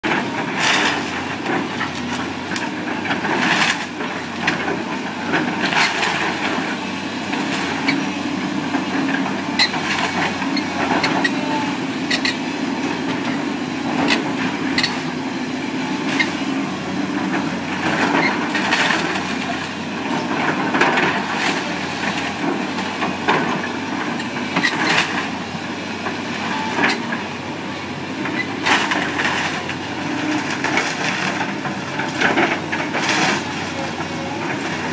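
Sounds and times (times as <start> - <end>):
heavy machine engine running: 0.0 - 34.9.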